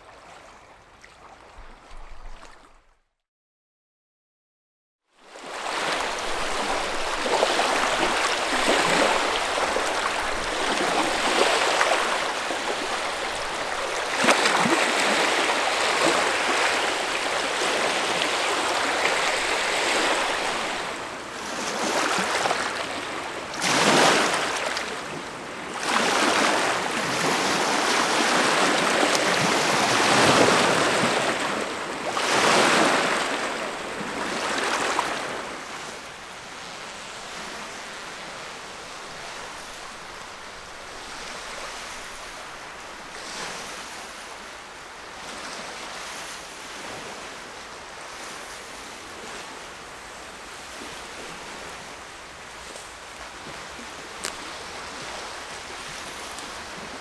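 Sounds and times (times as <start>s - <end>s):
lake waves washing on stones: 5.4s - 57.0s.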